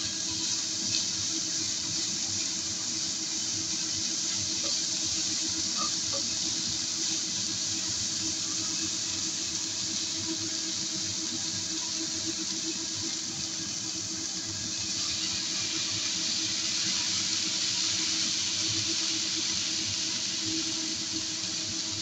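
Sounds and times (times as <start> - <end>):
beans sizzling in a pan: 0.0 - 22.0.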